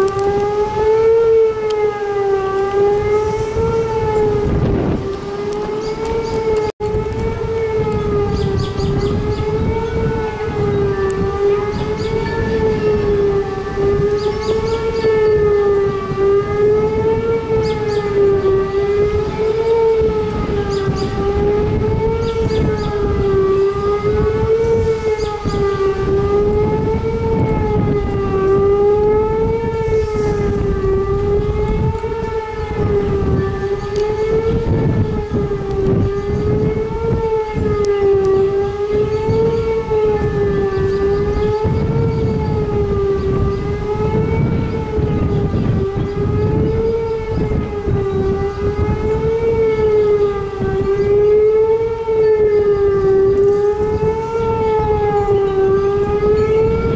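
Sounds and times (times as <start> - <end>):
wavering warning siren: 0.0 - 56.9
wind rumbling on microphone: 0.0 - 56.9.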